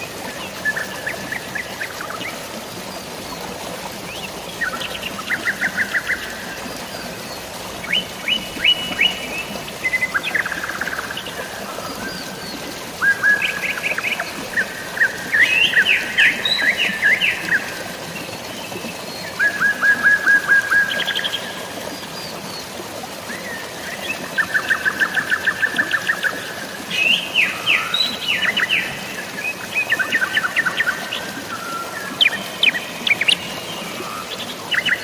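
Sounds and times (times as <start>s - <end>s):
falling water hiss: 0.0s - 35.0s.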